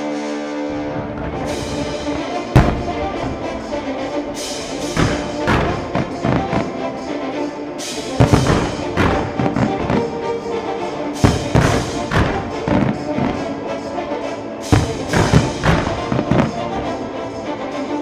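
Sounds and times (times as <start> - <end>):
loud music: 0.0 - 18.0
fireworks launching and bursting: 0.7 - 14.0, 14.6 - 17.4.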